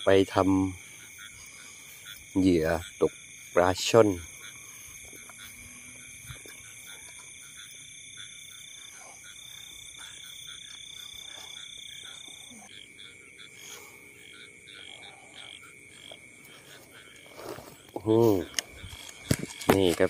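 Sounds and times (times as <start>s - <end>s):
frogs croaking: 0.0s - 20.0s
insect trilling: 0.0s - 20.0s.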